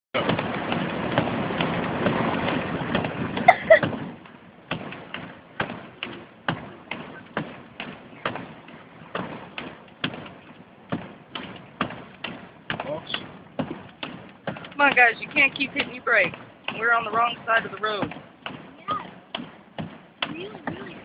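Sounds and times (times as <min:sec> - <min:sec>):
steady rushing noise: 0:00.2 - 0:21.0.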